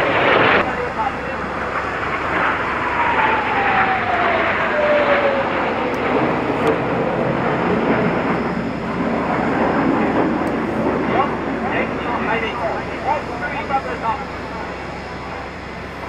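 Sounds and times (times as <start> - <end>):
jet engines roaring overhead: 0.0 - 16.0
jet whine falling in pitch: 0.0 - 16.0.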